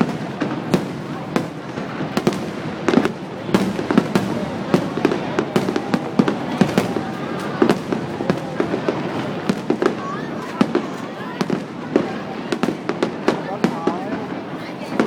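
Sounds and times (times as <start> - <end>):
fireworks bangs and pops: 0.0 - 15.0
fireworks crackle: 0.0 - 15.0.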